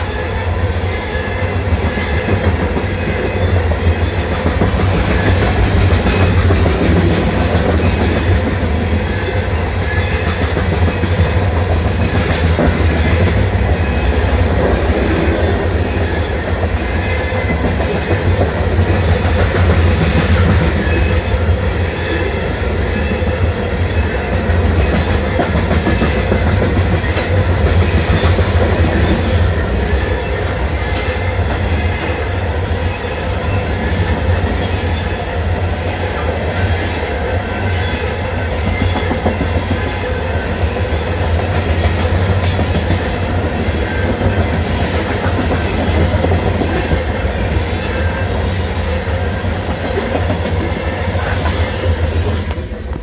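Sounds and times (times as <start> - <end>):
freight train rumble: 0.0 - 53.0
steel wheels clattering on rails: 0.0 - 53.0.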